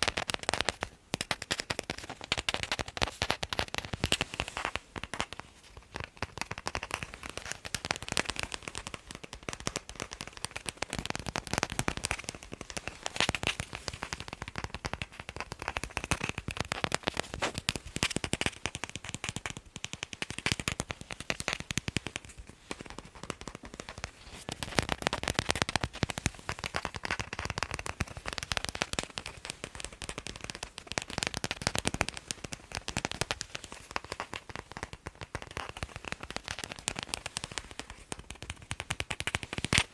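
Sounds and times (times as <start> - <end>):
fingers tapping on a ball: 0.0 - 39.9.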